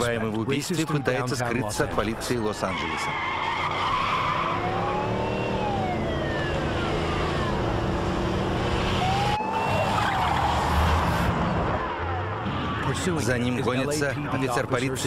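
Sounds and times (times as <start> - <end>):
police siren wailing: 0.0 - 14.7
car engine and road noise: 0.0 - 15.0.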